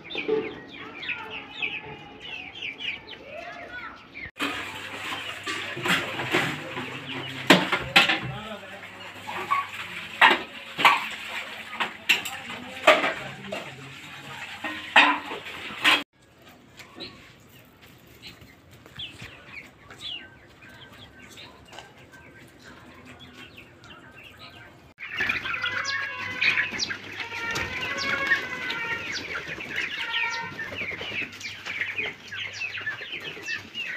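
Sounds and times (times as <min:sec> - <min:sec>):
chickens clucking and calling: 0:00.0 - 0:33.9.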